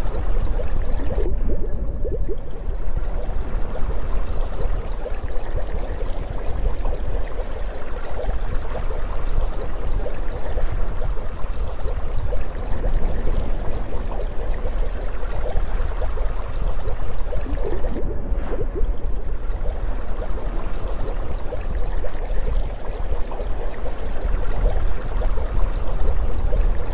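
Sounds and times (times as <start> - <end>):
low underwater rumble: 0.0 - 26.9
water gurgling and bubbling: 0.0 - 26.9.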